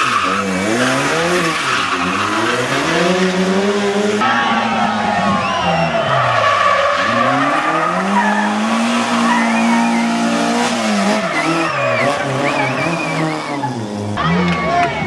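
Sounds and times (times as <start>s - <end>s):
race car engine revving: 0.0s - 15.0s
tyres squealing: 0.0s - 15.0s.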